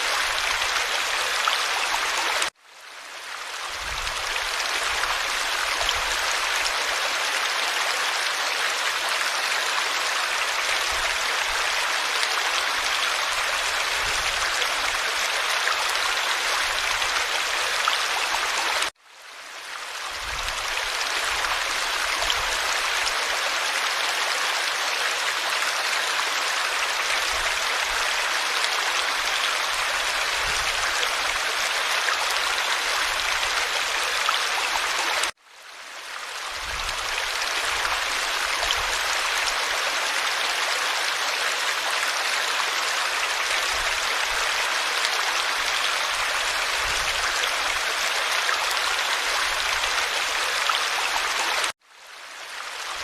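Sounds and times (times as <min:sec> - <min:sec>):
stream water babbling: 0:00.0 - 0:53.0.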